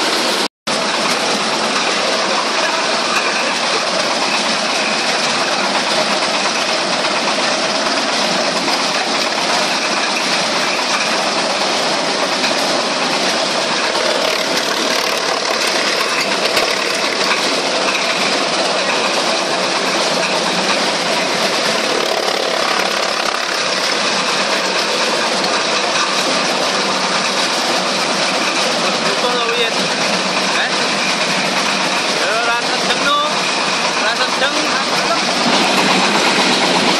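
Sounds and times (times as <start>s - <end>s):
wood chipper running: 0.0s - 36.9s.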